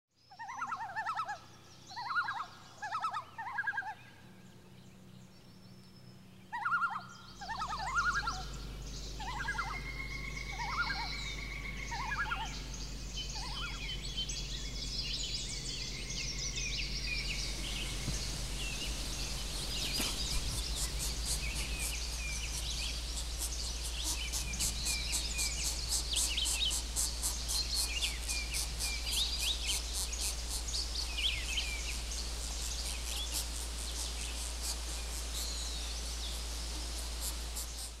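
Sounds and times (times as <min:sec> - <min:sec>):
low repeated bird calls: 0:00.2 - 0:38.0
wild birds chirping and trilling: 0:00.2 - 0:38.0.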